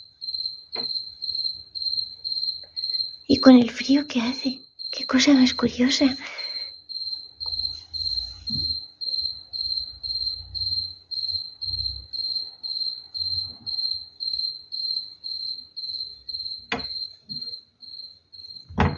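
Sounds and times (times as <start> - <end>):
cricket chirping: 0.0 - 18.9.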